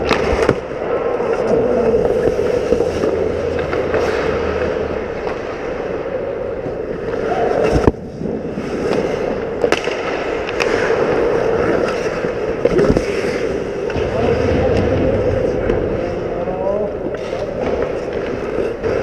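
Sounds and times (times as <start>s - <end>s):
hockey sticks clattering: 0.0s - 19.0s
skates scraping on ice: 0.0s - 19.0s.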